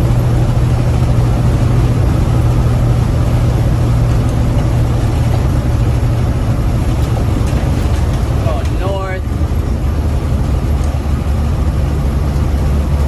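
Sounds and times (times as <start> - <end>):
diesel truck engine droning: 0.0 - 13.0
road rumble: 0.0 - 13.0.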